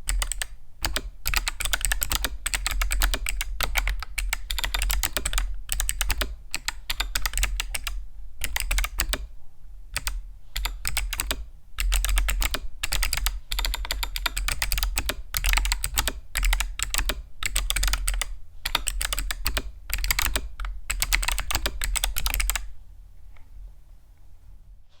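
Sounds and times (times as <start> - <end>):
fast typing on clicky keyboard: 0.0 - 9.3, 10.0 - 22.7.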